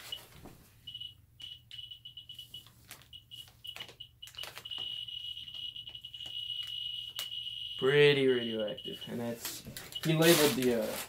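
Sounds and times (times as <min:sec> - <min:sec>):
geiger counter chirping: 0:00.9 - 0:10.4.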